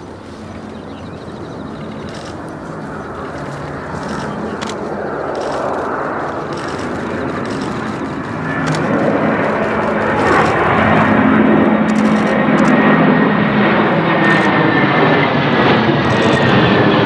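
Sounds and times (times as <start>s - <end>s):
jet engines flyby: 0.0s - 17.0s.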